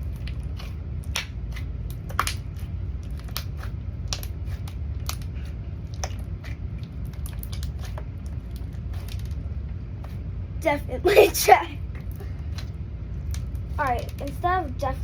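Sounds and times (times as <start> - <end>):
slime squishing: 0.0 - 10.3, 11.8 - 15.0
low steady hum: 0.0 - 15.0.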